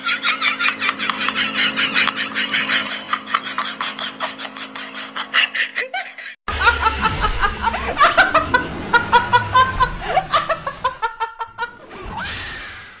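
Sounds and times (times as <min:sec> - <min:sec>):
woman laughing: 0:00.0 - 0:11.8.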